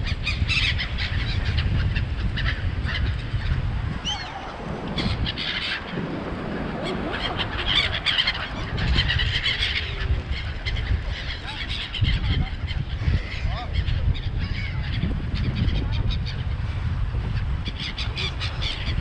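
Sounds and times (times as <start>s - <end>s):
gulls calling: 0.0s - 19.0s
wind buffeting microphone: 0.0s - 19.0s.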